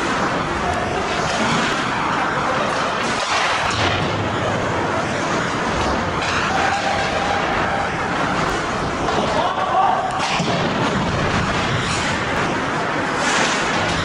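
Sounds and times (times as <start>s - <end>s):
hockey sticks: 0.0s - 14.0s
skates scraping ice: 0.0s - 14.0s.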